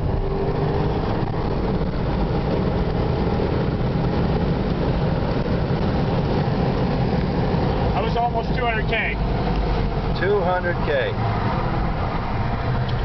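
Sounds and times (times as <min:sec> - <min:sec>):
car engine at full throttle: 0:00.0 - 0:13.0
wind and road noise: 0:00.0 - 0:13.0.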